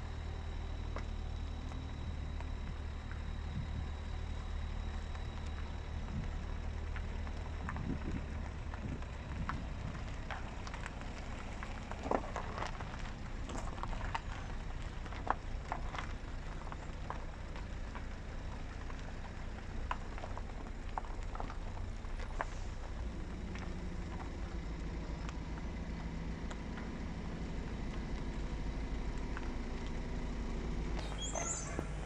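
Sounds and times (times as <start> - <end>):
steady low rumble: 0.0 - 32.0
light crackles and clicks: 4.5 - 30.3.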